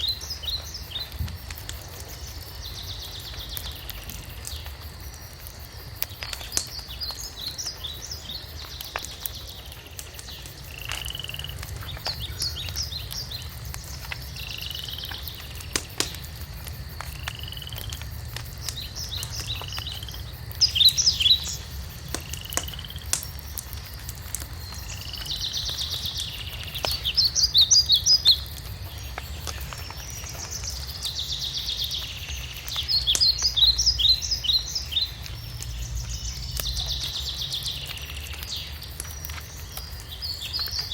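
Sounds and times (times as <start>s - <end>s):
songbirds singing: 0.0s - 40.9s
wood fire crackling: 0.0s - 40.9s.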